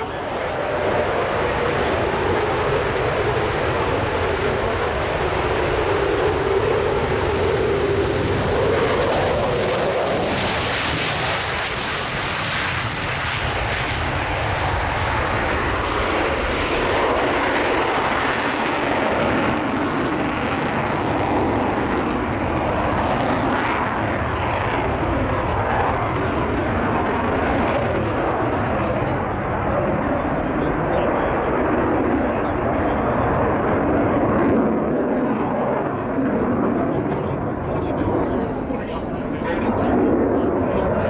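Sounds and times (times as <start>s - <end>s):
fighter jet engines roaring: 0.0s - 41.0s.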